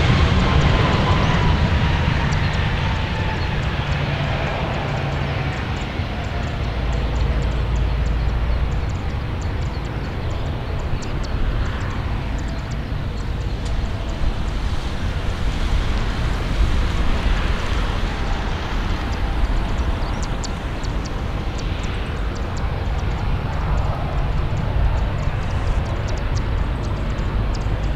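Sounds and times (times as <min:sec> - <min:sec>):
jet engines rumbling: 0:00.0 - 0:27.9.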